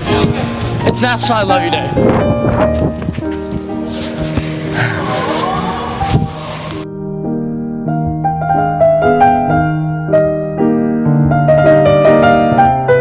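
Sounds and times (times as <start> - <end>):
piano-like keyboard melody: 0.0 - 13.0.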